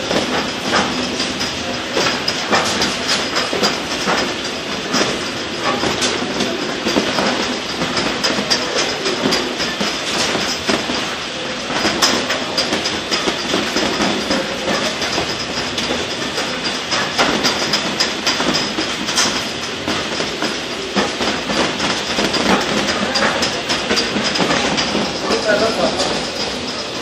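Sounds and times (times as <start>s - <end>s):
machine rattling: 0.0s - 27.0s
potatoes clattering on conveyor: 0.0s - 27.0s.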